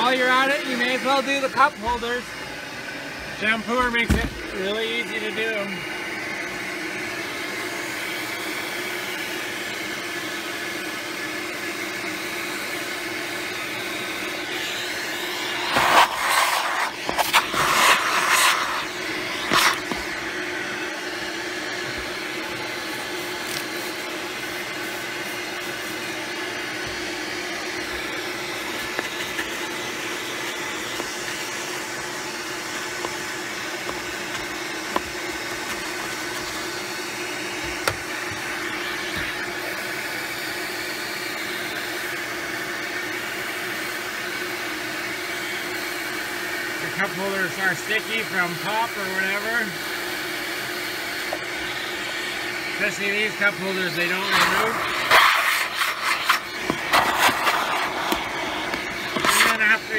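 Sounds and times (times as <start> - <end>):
vacuum motor humming: 0.0 - 59.9.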